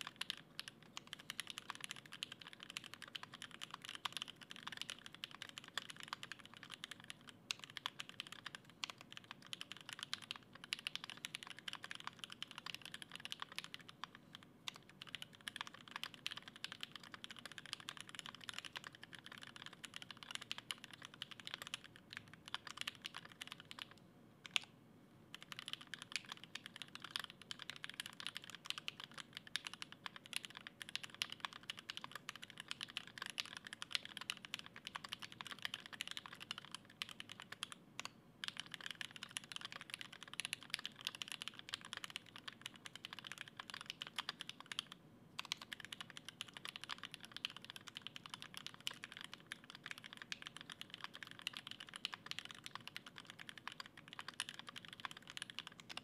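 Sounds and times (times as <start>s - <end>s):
mechanical keyboard typing: 0.0s - 24.7s, 25.3s - 56.0s.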